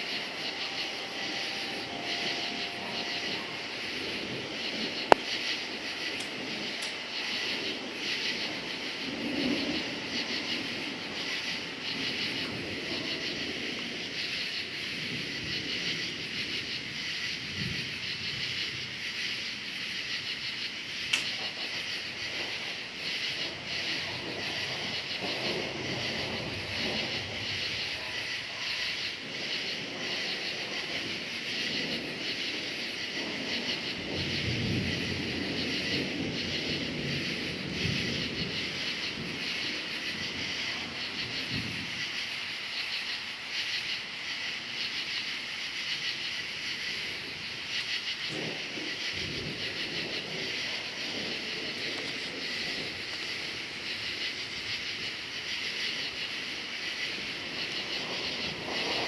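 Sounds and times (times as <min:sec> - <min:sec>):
distant thunder rumbling: 0:00.0 - 0:44.3, 0:46.2 - 0:59.0
crickets chirping: 0:00.0 - 0:59.0.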